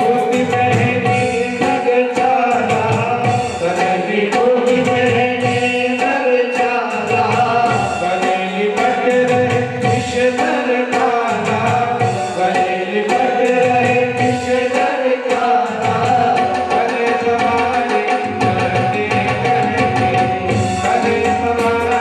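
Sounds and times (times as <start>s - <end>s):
person singing: 0.0s - 22.0s
sustained accompaniment: 0.0s - 22.0s
tabla drumming: 0.0s - 22.0s.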